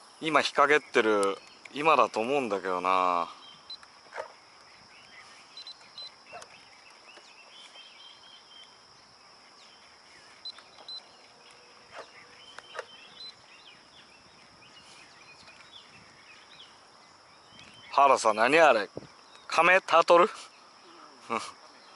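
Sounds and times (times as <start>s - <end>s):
steady high-pitched hiss: 0.0s - 21.9s
birds chirping and calling: 0.2s - 21.9s.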